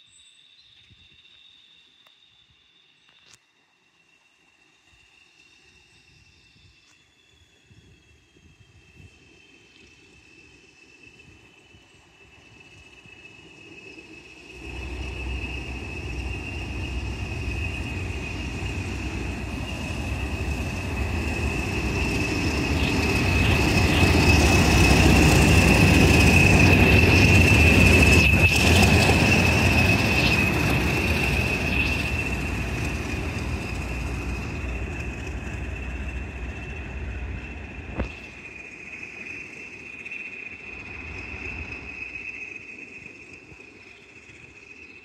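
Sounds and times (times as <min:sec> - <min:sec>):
steady high whistle: 0:00.0 - 0:45.0
diesel locomotive passing: 0:07.3 - 0:45.0.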